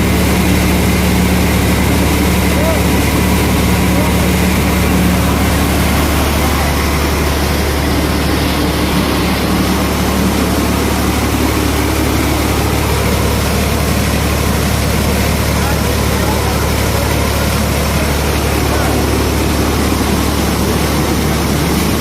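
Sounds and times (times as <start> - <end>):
milling machinery noise: 0.0 - 22.0
tractor engine drone: 0.0 - 22.0.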